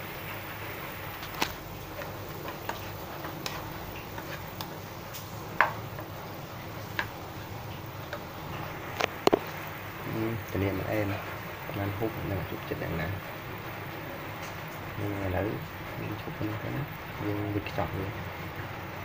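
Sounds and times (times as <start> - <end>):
frying pan hiss: 0.0 - 19.0.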